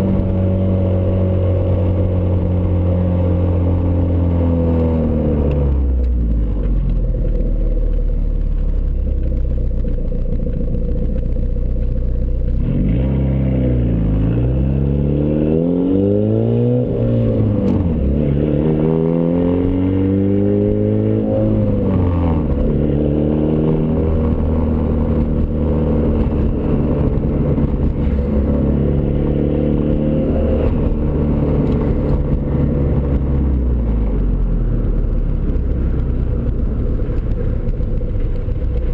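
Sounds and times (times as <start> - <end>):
car engine droning and revving: 0.0 - 38.9.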